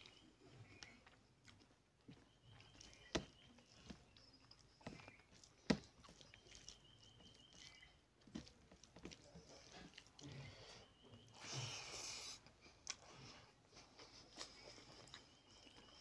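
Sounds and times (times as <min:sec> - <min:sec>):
fingers squishing wet food: 0:00.0 - 0:16.0.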